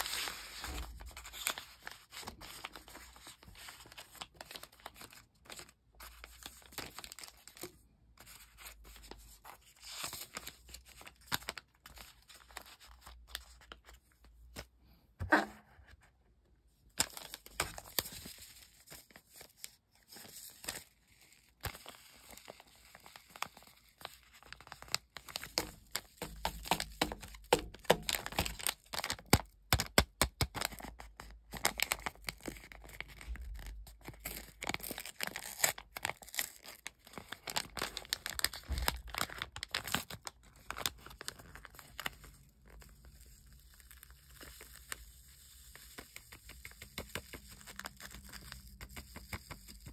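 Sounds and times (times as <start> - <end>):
foil paper envelope crinkling: 0.0 - 14.7, 17.0 - 49.9.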